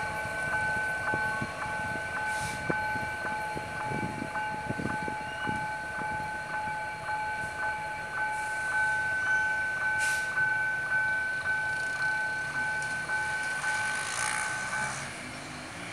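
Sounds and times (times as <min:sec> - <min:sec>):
diesel locomotive rumble: 0:00.0 - 0:15.9.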